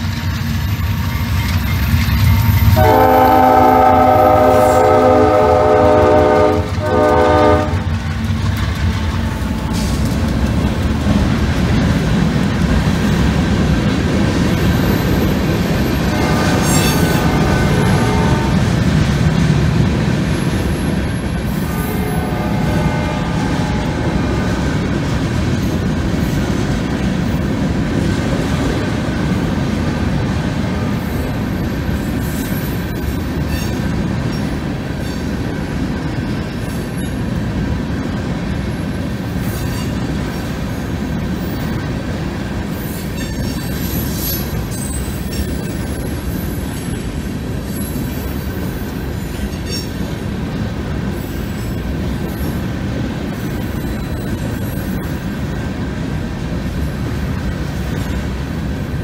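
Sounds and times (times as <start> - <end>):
wheels squealing on rails: 0.0 - 11.4, 14.2 - 19.5, 20.1 - 27.4, 30.6 - 37.8, 38.5 - 59.0
diesel locomotive engines: 0.0 - 59.0
train wheels rumbling on rails: 0.0 - 59.0.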